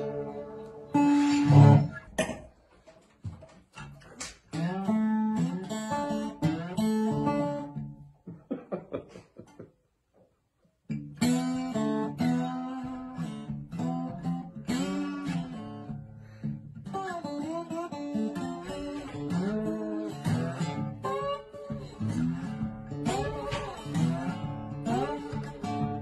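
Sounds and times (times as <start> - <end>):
guitar strumming and plucking: 0.0 - 8.2, 10.8 - 26.0.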